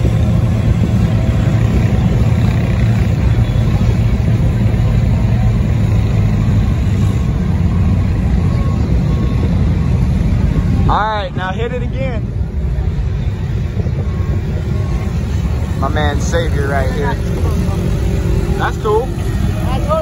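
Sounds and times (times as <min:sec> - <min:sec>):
large truck engine rumbling: 0:00.0 - 0:20.0.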